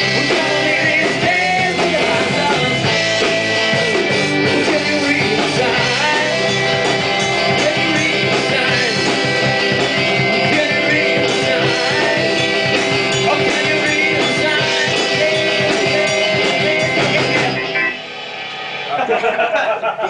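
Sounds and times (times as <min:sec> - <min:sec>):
person singing into a microphone: 0:00.0 - 0:06.8, 0:07.4 - 0:18.0
electric guitar: 0:00.0 - 0:19.7
bass guitar: 0:00.0 - 0:19.8
drum kit: 0:00.0 - 0:20.0.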